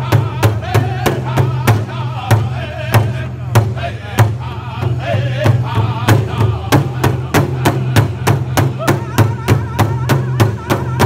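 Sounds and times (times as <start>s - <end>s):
faint singing voices: 0.0s - 11.0s
large drum beating: 0.0s - 11.0s.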